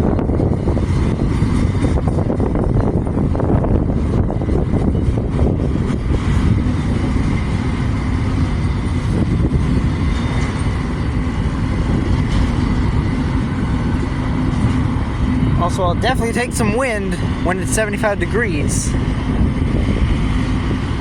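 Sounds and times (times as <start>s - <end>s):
wind on microphone: 0.0s - 16.0s, 18.9s - 21.0s
train wheels rumbling on rail: 0.0s - 21.0s.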